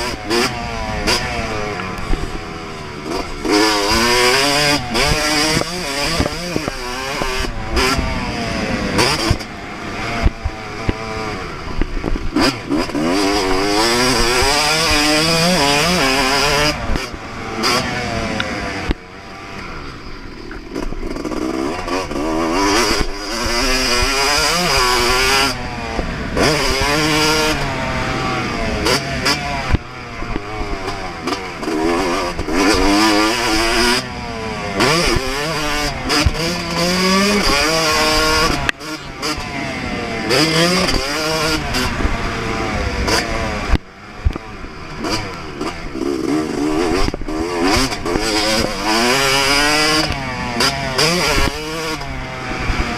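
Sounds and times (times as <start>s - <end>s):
two-stroke motocross engine revving: 0.0s - 52.9s.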